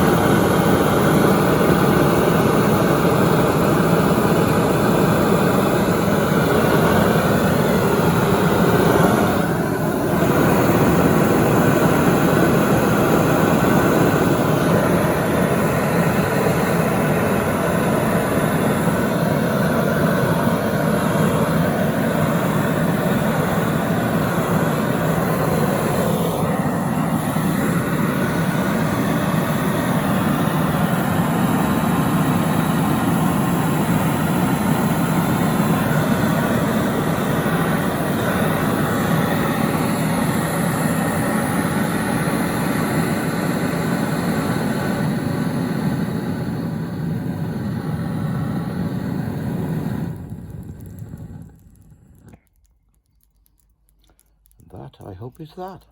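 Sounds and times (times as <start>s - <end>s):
gas torch burning: 0.0s - 55.9s.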